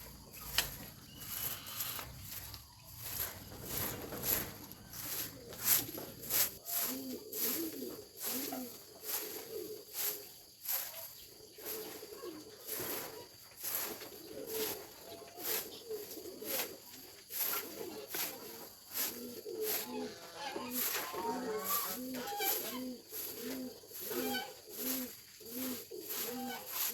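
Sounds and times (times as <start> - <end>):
birds calling softly: 0.0 - 26.9.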